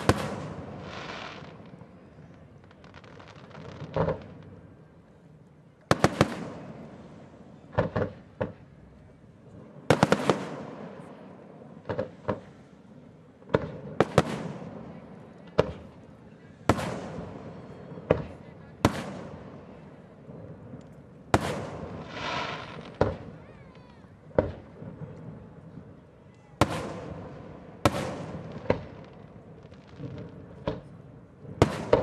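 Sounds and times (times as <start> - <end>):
fireworks bursting with echo: 0.0 - 32.0.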